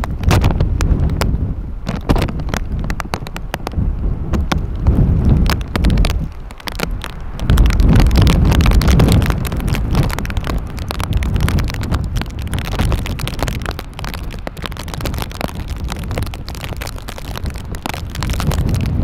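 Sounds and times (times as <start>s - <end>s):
constant crackle: 0.0s - 19.0s
wind buffeting microphone: 0.0s - 19.0s.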